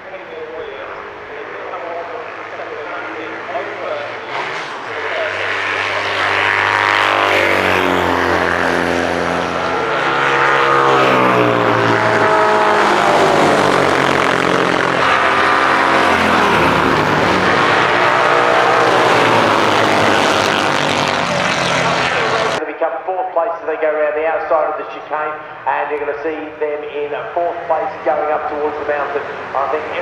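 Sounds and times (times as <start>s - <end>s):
racing sidecar engine revving: 0.8s - 22.6s, 27.5s - 30.0s.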